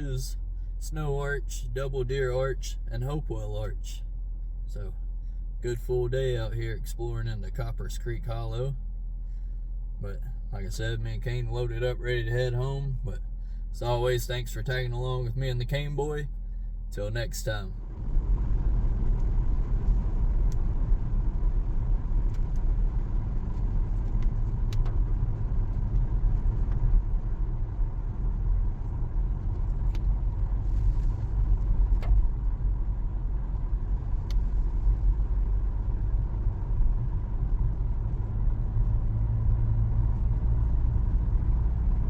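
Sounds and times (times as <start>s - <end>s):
car engine low rumble: 0.0s - 42.0s.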